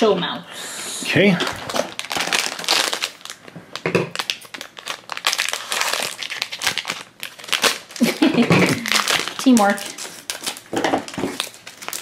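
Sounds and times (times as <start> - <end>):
plastic wrapper crinkling: 1.4 - 12.0.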